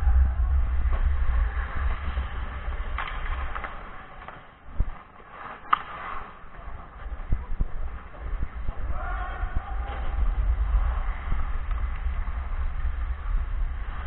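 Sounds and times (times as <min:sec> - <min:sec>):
wind rumble: 0:00.0 - 0:05.1, 0:06.4 - 0:14.0
skates scraping on ice: 0:00.2 - 0:14.0
hockey sticks and puck clacking: 0:00.8 - 0:14.0.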